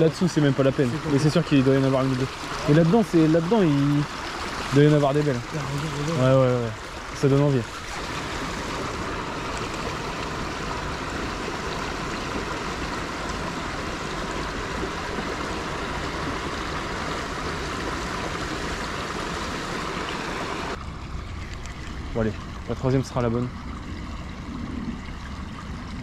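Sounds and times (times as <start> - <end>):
stream flowing over riffle: 0.0 - 26.0.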